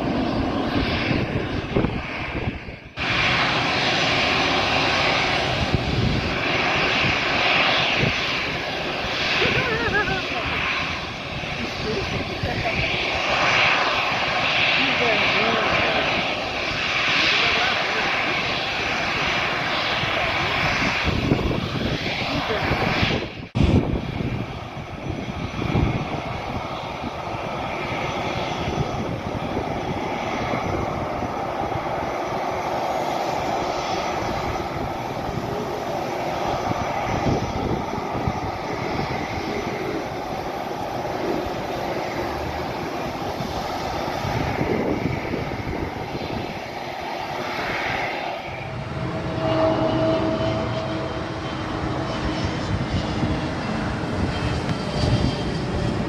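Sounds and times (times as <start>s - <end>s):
airplane engines roaring: 0.0s - 56.0s
steady two-tone whine: 0.0s - 56.0s.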